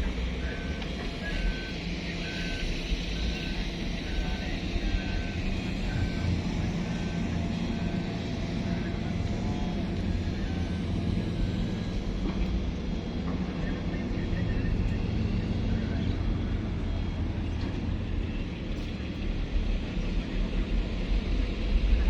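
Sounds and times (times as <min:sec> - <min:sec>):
excavator diesel engine rumbling: 0:00.0 - 0:22.0.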